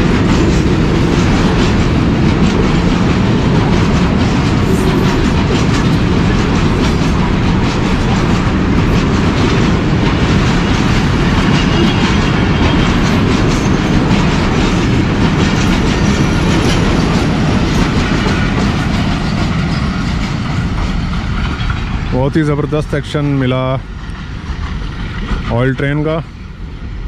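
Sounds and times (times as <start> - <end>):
freight train rolling past: 0.0 - 27.0
steel wheels clattering over rail joints: 0.0 - 27.0.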